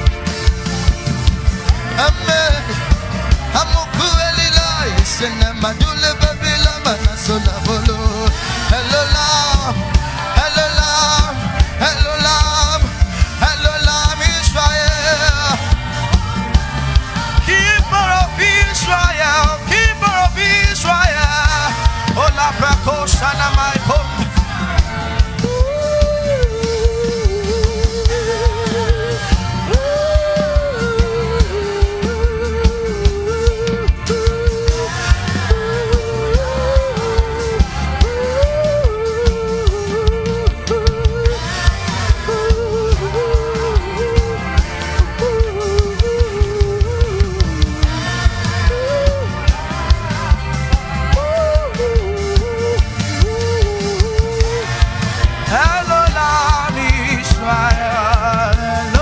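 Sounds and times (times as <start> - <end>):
band with fast drum beat: 0.0 - 59.0
bass: 0.0 - 59.0
man singing into a microphone: 1.5 - 59.0.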